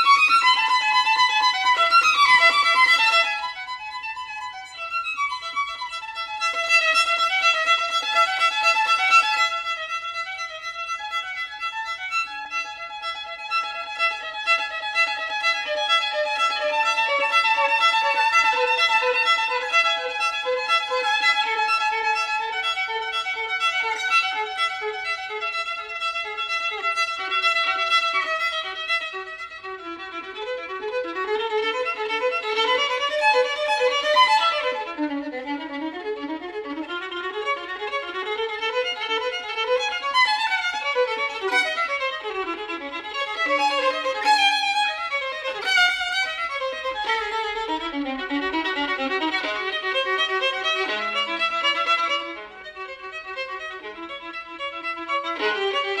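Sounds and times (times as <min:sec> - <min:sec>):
violin melody: 0:00.0 - 0:56.0.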